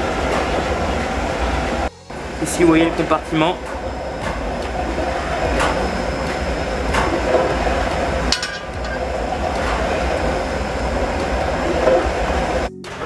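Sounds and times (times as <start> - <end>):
burner blower fan running: 0.0 - 13.0.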